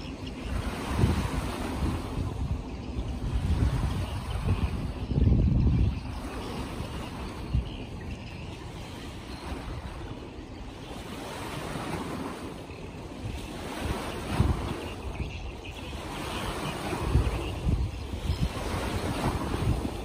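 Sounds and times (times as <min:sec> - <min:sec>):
water rushing: 0:00.0 - 0:20.0
wind buffeting microphone: 0:00.0 - 0:20.0.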